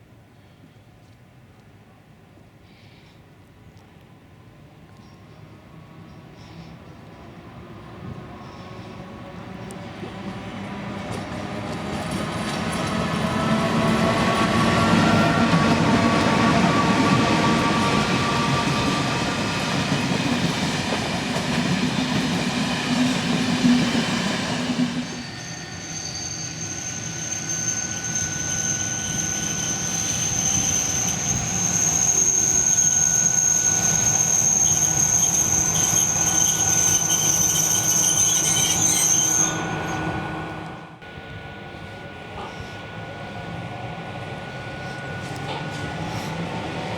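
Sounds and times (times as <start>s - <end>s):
train running past humming: 4.6s - 46.9s
train wheels squealing on rails: 5.0s - 46.9s.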